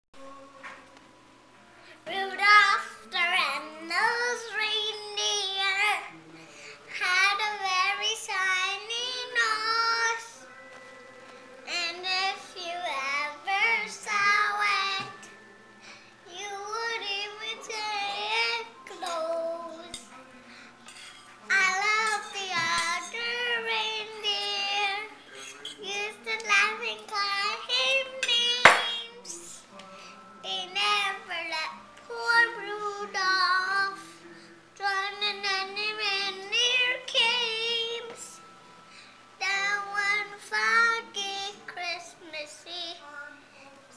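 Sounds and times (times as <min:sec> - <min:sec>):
boy singing: 0:02.0 - 0:15.4, 0:16.2 - 0:20.4, 0:21.4 - 0:38.4, 0:39.4 - 0:43.9.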